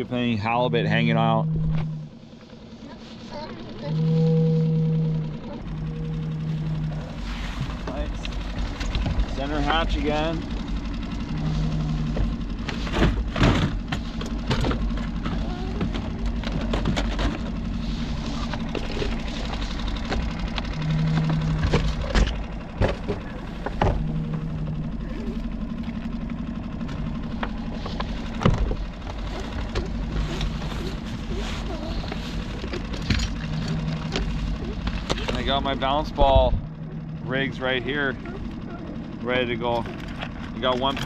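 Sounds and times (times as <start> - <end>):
low engine hum: 0.0 - 41.0.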